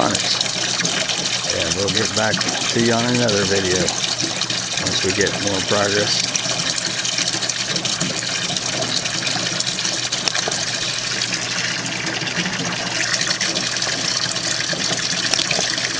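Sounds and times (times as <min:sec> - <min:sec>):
water gushing through hoses: 0:00.0 - 0:15.9
water pump humming: 0:00.0 - 0:15.9.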